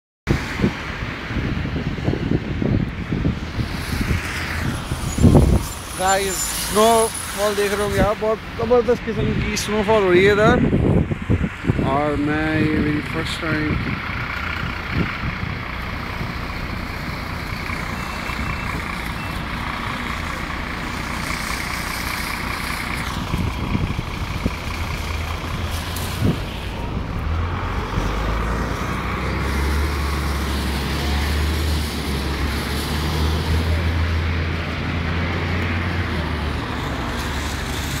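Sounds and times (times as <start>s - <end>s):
vehicles passing: 0.3s - 38.0s
deep heavy engine rumble: 0.6s - 38.0s.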